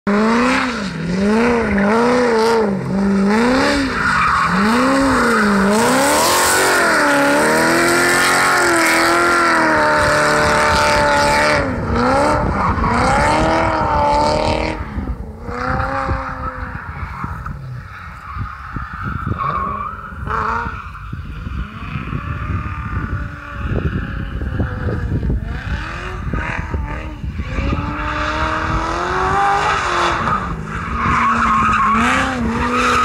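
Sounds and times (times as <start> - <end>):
car engine revving: 0.1 - 18.2, 19.2 - 33.0.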